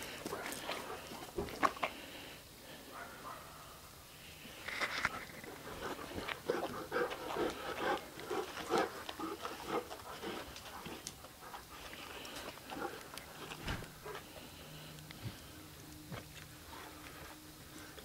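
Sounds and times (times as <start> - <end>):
dogs panting and sniffing: 0.0 - 3.5, 4.3 - 18.0.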